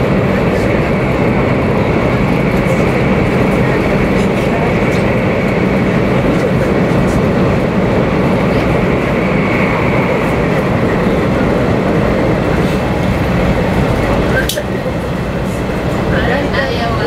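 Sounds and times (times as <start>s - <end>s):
train cabin rumble and rush: 0.0s - 17.0s.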